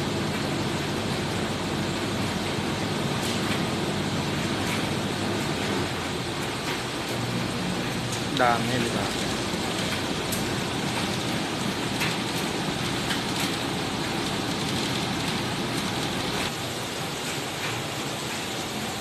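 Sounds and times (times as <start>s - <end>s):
washing machines and dryers running: 0.0s - 19.0s.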